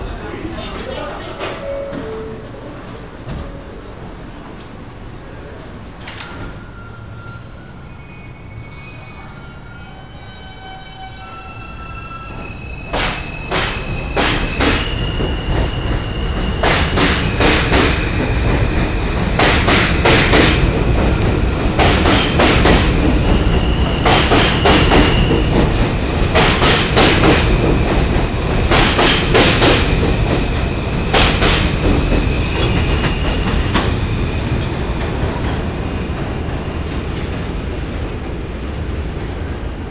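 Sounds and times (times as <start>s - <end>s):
subway train rumbling past: 0.0s - 39.9s.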